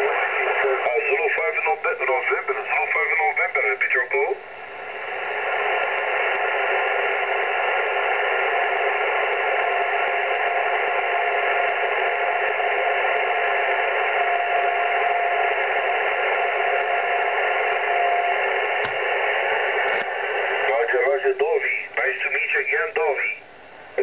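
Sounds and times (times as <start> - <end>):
radio band noise hiss: 0.0 - 24.0.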